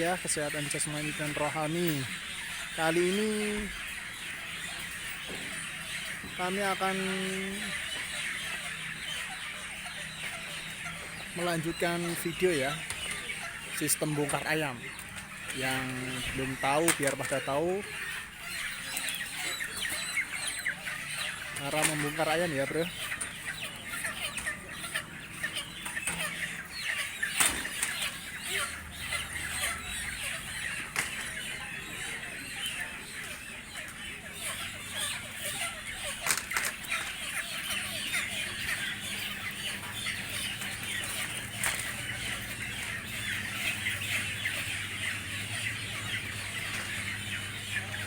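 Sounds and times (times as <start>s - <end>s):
chickens squawking: 0.0s - 48.0s.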